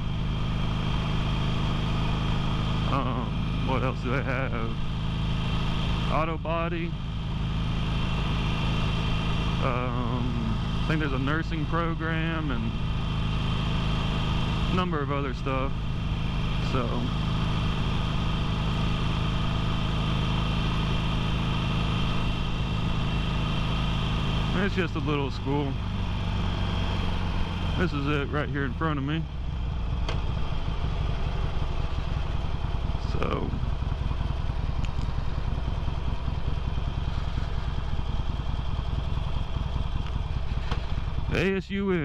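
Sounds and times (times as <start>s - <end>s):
road and wind rush: 0.0s - 41.3s
motorcycle engine cruising: 0.0s - 42.0s.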